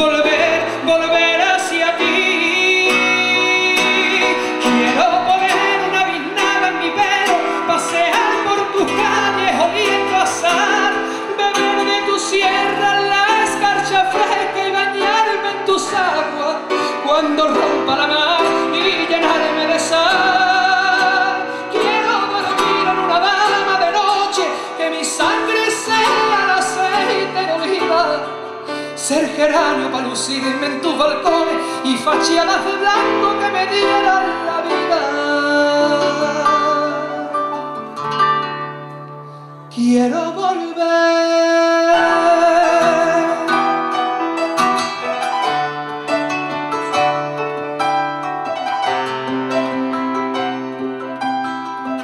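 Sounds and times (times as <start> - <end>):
man singing: 0.0 - 37.8, 39.7 - 45.5
grand piano: 0.0 - 52.0.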